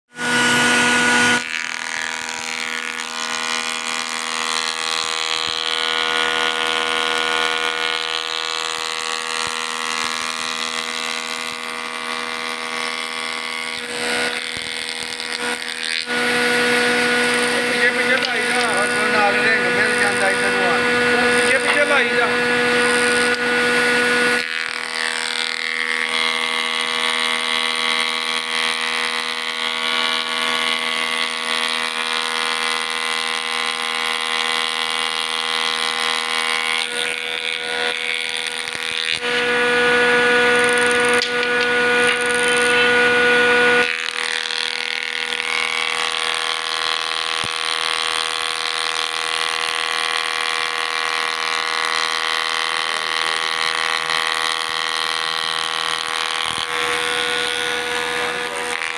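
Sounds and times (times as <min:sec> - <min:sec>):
planer machine whining: 0:00.1 - 0:58.9.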